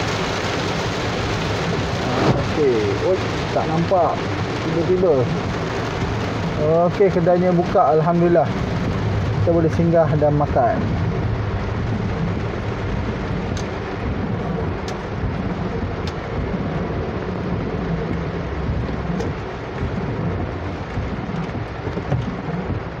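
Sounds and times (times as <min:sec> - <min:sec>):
car engine hum: 0:00.0 - 0:23.0
heavy rain on car roof: 0:00.0 - 0:23.0
raindrop ticks: 0:00.0 - 0:23.0.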